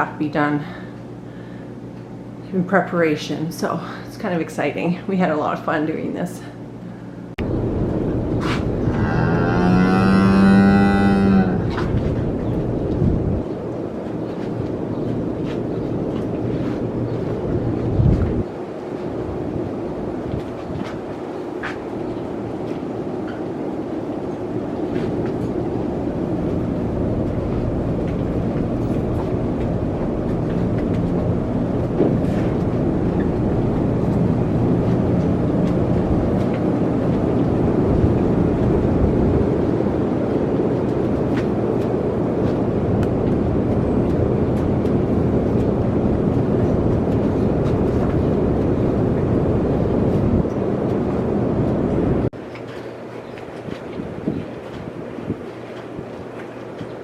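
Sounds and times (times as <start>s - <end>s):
low mechanical rumble: 0.0s - 52.6s.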